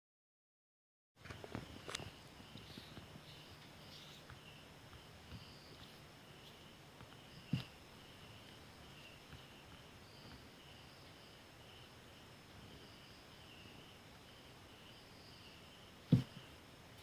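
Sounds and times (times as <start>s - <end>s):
faint insects chirping: 1.2s - 17.0s.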